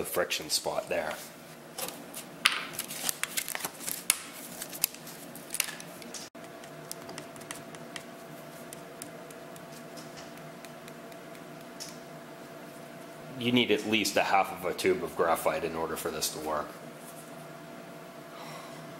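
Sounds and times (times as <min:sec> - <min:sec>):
quiet steady hum: 0:00.0 - 0:18.9.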